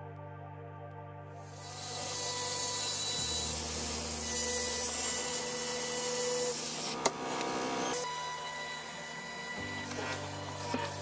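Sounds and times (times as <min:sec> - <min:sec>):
angle grinder cutting tile: 0:01.4 - 0:11.0.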